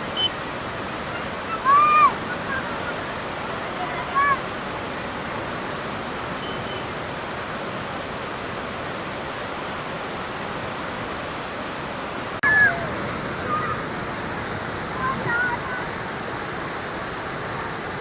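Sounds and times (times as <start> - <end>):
river rushing in flood: 0.0 - 18.0.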